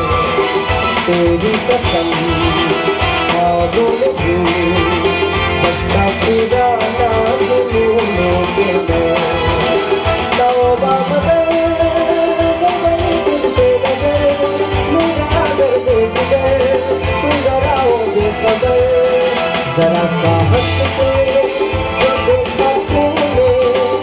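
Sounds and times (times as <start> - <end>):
acoustic and electric guitars: 0.0 - 24.0
electronic drum kit beat: 0.0 - 24.0
man singing into a microphone: 0.0 - 24.0.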